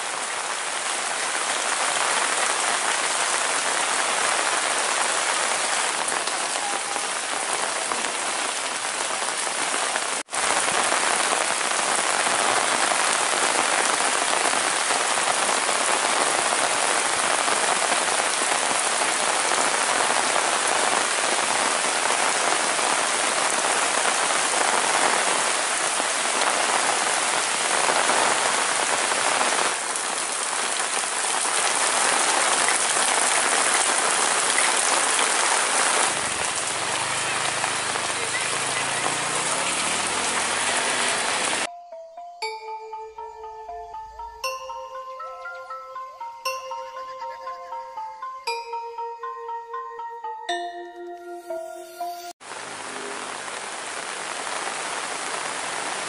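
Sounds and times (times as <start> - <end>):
rain on paving and leaves: 0.0 - 41.7, 52.4 - 56.0.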